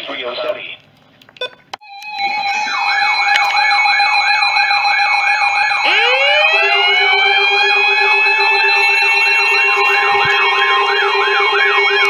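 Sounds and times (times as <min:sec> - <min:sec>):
rising alarm tone: 0:01.8 - 0:12.0
warbling weather alert siren: 0:01.8 - 0:12.0.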